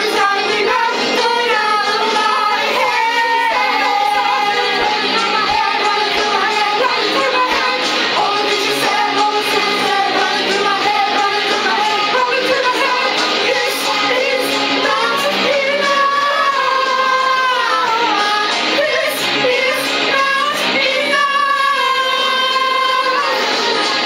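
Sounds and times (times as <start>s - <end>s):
group of voices singing in harmony: 0.0s - 24.0s.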